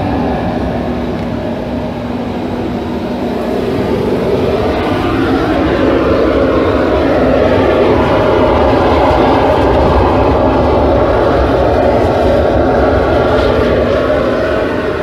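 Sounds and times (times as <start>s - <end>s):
loud mechanical roar: 0.0s - 15.0s.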